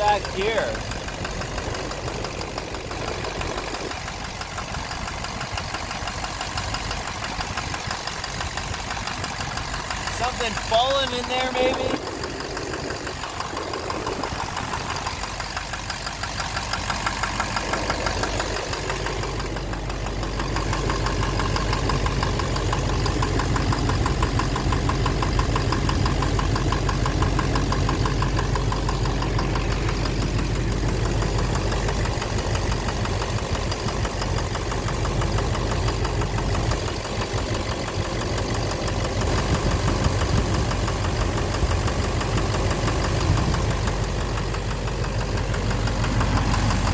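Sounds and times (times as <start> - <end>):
diesel engine idling with knock: 0.0 - 46.9.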